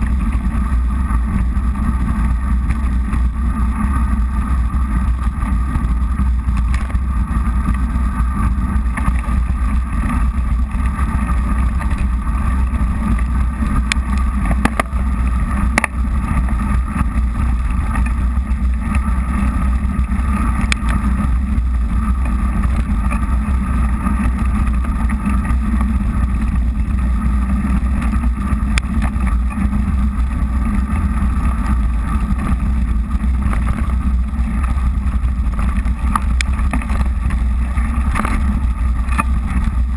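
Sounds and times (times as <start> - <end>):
bike tyres rolling on wet path: 0.0 - 39.9
sharp clicks from bumps: 0.0 - 39.9
wind rumble on microphone: 0.0 - 39.9.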